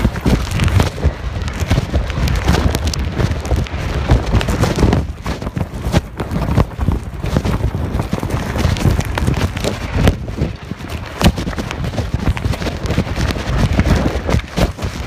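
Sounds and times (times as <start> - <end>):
heavy rain: 0.0 - 15.0
raindrops ticking close by: 0.0 - 15.0
wind gusting on microphone: 0.0 - 15.0.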